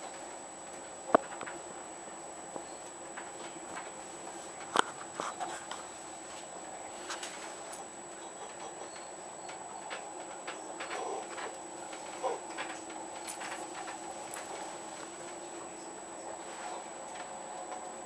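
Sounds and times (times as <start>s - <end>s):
faint high whine: 0.0s - 18.0s
train carriage hum: 0.0s - 18.0s.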